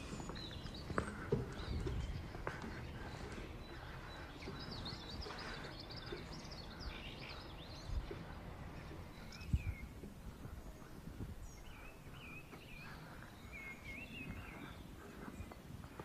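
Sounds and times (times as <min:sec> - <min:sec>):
small birds chirping: 0:00.0 - 0:16.0
soft low thumps: 0:00.0 - 0:16.0.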